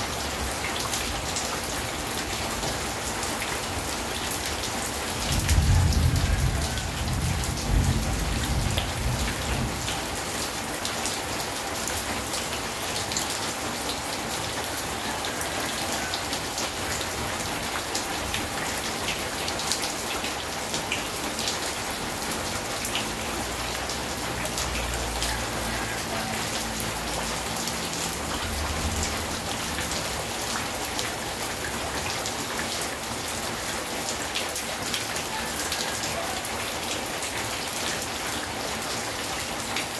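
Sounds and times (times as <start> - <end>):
rain on a corrugated roof: 0.0 - 39.9
water dripping from eaves: 0.0 - 39.9.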